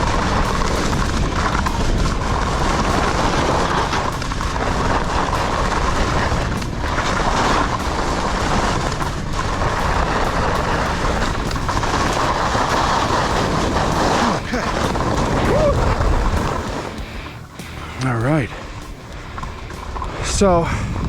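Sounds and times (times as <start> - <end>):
skis scraping over snow: 0.0 - 21.0
wind on microphone: 0.0 - 21.0.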